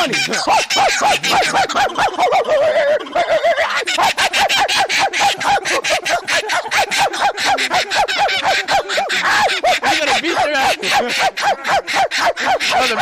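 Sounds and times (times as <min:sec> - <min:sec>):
kookaburras laughing: 0:00.0 - 0:13.0.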